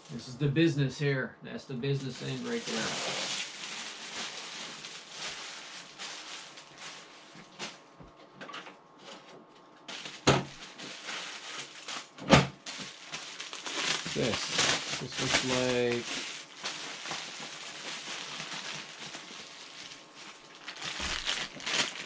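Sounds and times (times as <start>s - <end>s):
packaging rustling: 2.2s - 7.8s, 9.9s - 22.0s.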